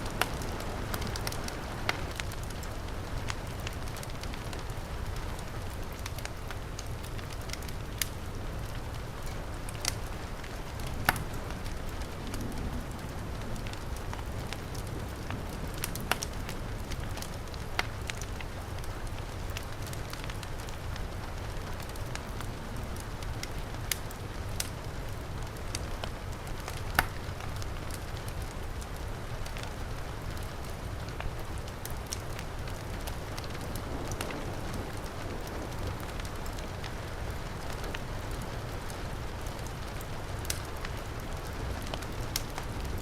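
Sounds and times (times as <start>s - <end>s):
heavy rain: 0.0s - 43.0s
wood fire crackling: 0.0s - 43.0s.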